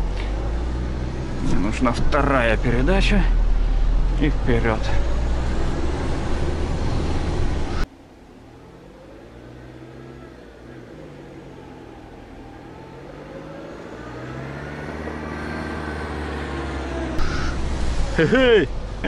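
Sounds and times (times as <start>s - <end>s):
car engine pulling uphill: 0.0s - 19.0s.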